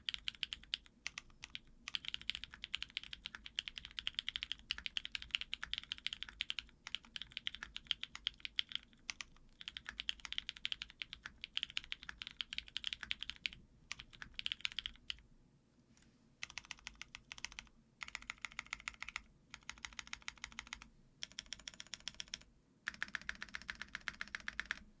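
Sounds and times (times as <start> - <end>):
mechanical keyboard typing: 0.0 - 15.2, 16.4 - 24.9.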